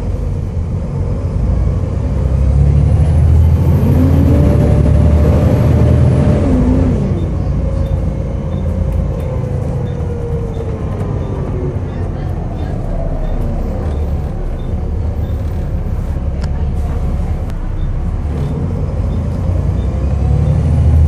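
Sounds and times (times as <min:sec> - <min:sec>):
bus diesel engine rumbling: 0:00.0 - 0:21.0
rising engine whine: 0:01.1 - 0:21.0.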